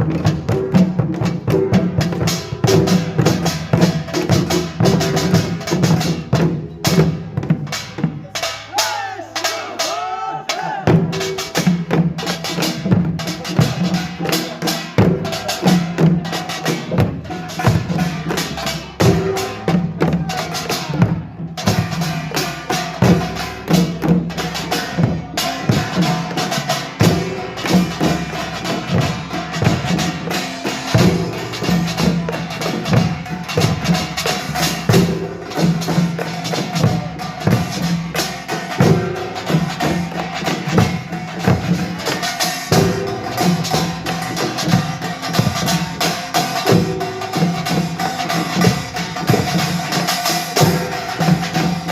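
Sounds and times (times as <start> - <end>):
drums playing fast rhythm: 0.0 - 51.9.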